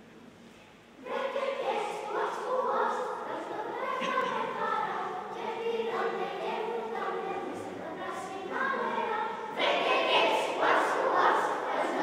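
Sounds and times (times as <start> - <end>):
children's choir singing: 1.0 - 12.0.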